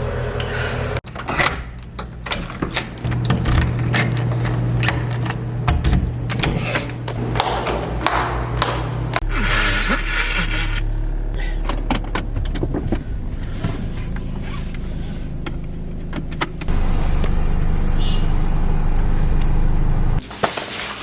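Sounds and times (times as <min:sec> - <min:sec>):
engine and road rumble: 0:00.0 - 0:20.2.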